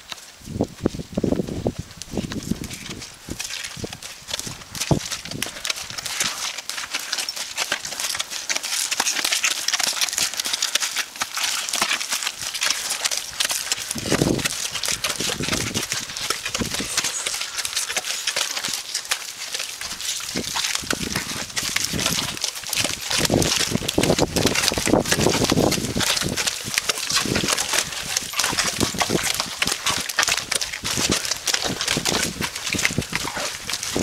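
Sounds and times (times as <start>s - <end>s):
horse hooves squelching in mud: 0.0s - 34.0s.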